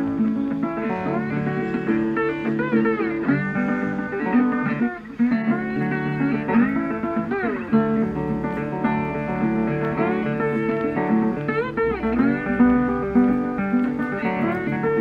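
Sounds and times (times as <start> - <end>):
blues guitar music: 0.0 - 15.0.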